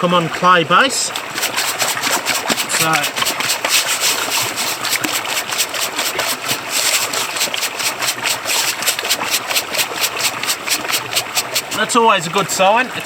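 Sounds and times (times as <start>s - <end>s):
gravel rattling in a sieve: 1.0s - 12.7s.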